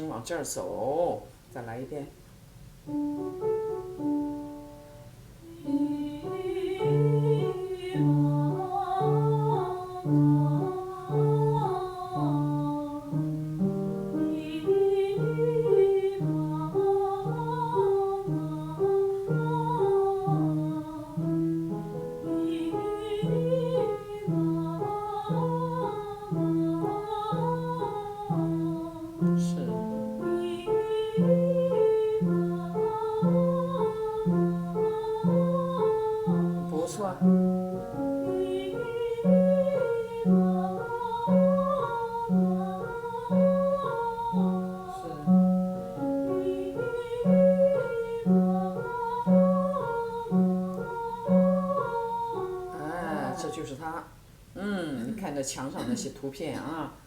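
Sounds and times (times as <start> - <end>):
piano accompaniment: 0.0 - 57.0
woman singing vocal exercise: 5.4 - 54.0.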